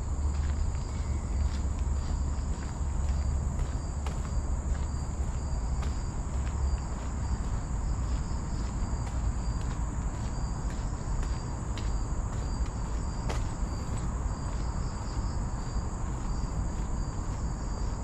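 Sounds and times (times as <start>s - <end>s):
constant low rumble: 0.0s - 18.0s
insects droning: 0.0s - 18.0s.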